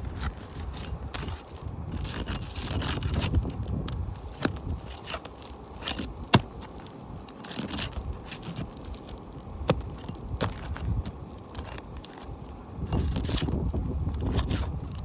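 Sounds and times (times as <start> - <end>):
scraping roof shingles: 0.0 - 15.0.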